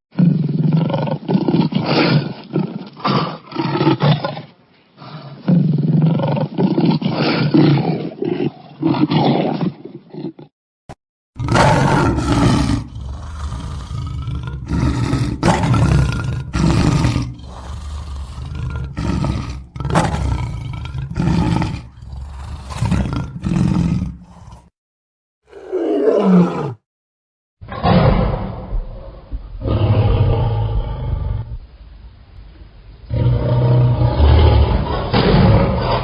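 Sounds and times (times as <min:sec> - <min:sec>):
lion roaring and grunting: 0:00.1 - 0:04.4, 0:05.0 - 0:10.5, 0:11.4 - 0:24.7, 0:25.5 - 0:26.8, 0:27.7 - 0:31.6, 0:33.1 - 0:36.0.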